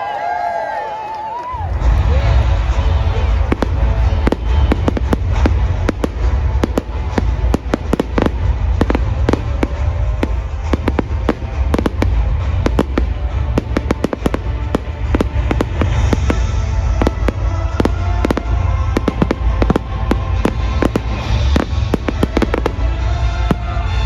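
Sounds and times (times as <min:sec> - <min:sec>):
music playing: 0:01.2 - 0:24.0
fireworks bangs and crackles: 0:01.5 - 0:24.0
low rumble: 0:01.6 - 0:24.0.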